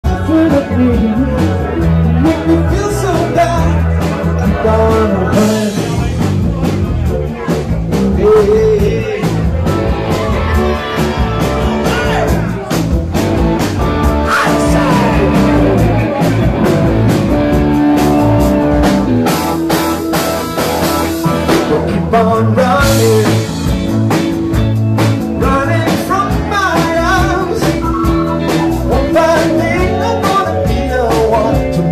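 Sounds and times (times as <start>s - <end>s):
drum kit steady beat: 0.0s - 31.9s
live rock band playing: 0.0s - 31.9s.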